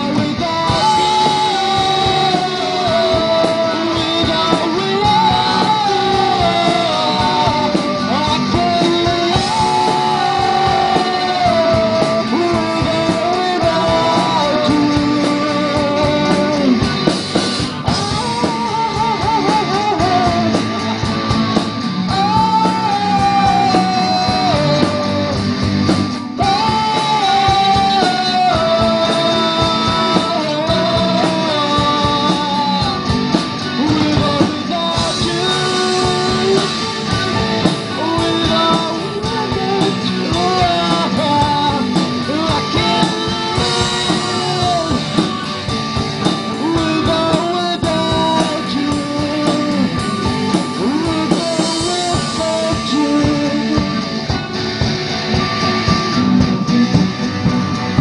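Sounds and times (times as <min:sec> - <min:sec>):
person singing: 0:00.0 - 0:54.6
live rock band playing: 0:00.0 - 0:58.0.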